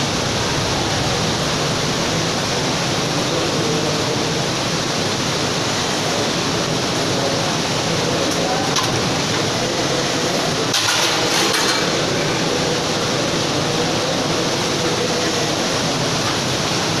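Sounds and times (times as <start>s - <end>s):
fast-flowing river water: 0.0s - 17.0s.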